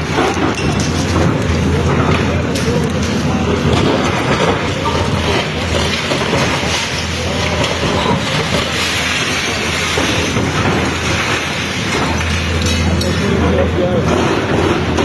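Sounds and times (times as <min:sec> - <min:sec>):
diesel engine running: 0:00.0 - 0:15.0
masonry breaking clatter: 0:00.0 - 0:15.0.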